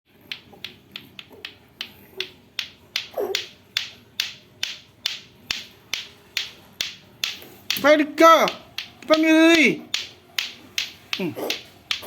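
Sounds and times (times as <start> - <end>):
clacker toy balls clacking: 0.1 - 12.0.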